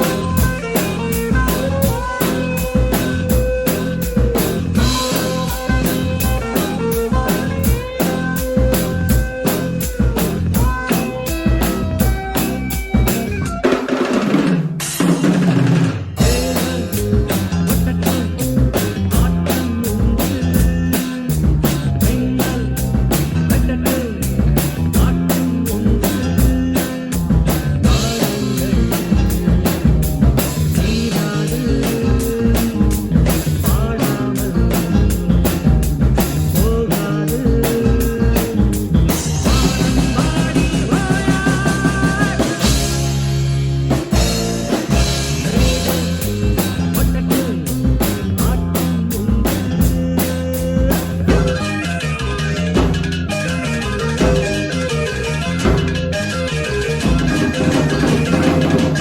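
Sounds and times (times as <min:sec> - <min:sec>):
drum kit playing a steady beat: 0:00.0 - 0:59.0.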